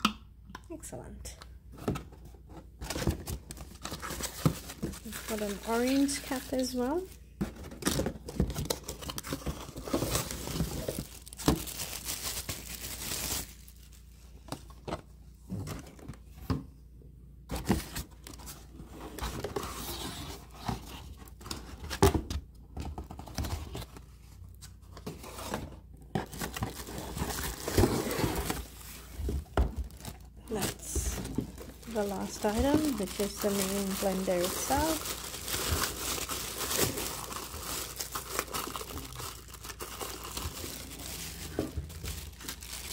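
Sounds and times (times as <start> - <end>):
cardboard rustling and crinkling: 1.7 - 16.6, 17.5 - 42.9.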